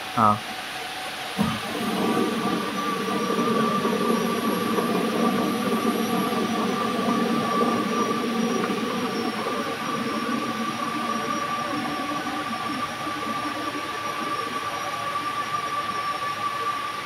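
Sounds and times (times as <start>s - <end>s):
machine humming with high whine: 0.0s - 17.0s.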